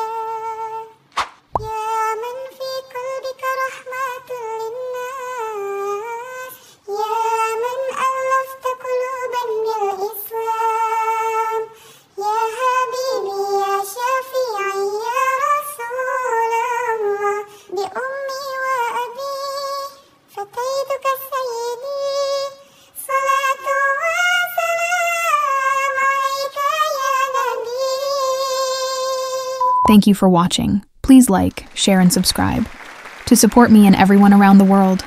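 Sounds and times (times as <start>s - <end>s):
synthetic child-like voice singing: 0.0s - 1.0s, 1.6s - 29.6s.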